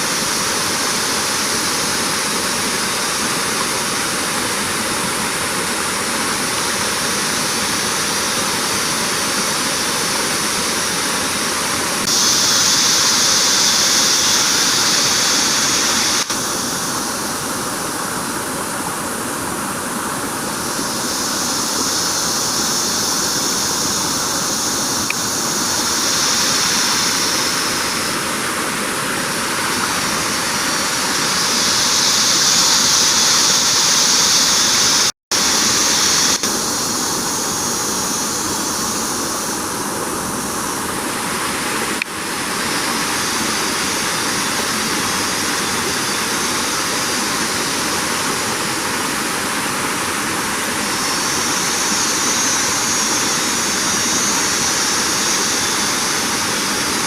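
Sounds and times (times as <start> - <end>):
insect chorus buzzing: 0.0 - 57.0
steady hiss: 0.0 - 57.0.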